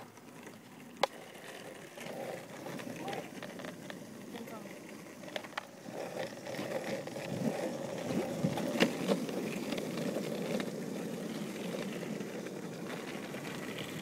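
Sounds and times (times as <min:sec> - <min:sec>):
longboard wheels rolling on asphalt: 0:00.0 - 0:14.0.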